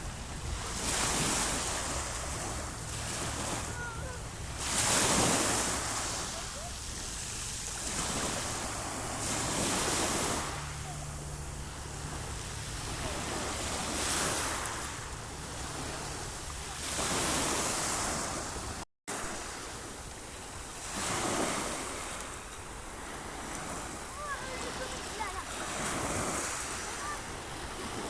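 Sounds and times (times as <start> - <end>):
sea waves washing onto shore: 0.0 - 28.0.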